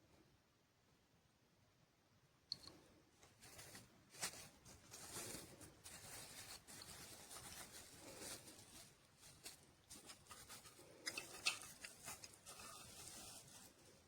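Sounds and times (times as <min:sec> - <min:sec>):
faint rustling: 0:02.7 - 0:14.0.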